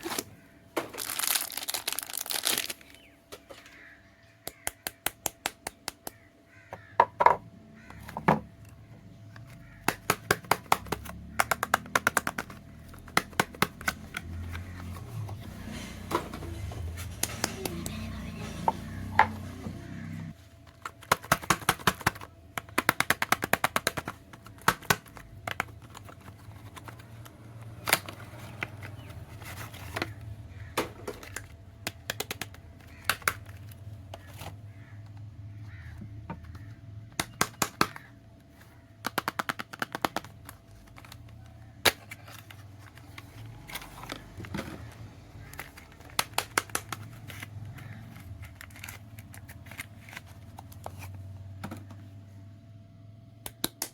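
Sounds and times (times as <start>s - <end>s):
packaging clicks and crackles: 0.0s - 6.7s, 8.5s - 15.7s, 20.6s - 51.9s.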